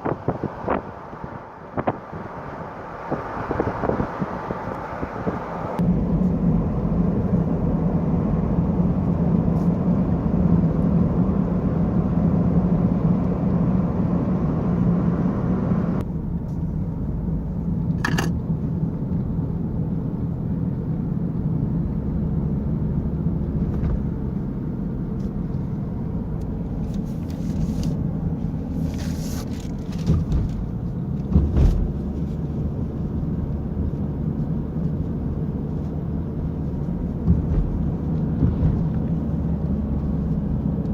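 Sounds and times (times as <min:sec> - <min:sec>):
car engine drone: 0:00.0 - 0:40.9
road noise: 0:00.0 - 0:40.9.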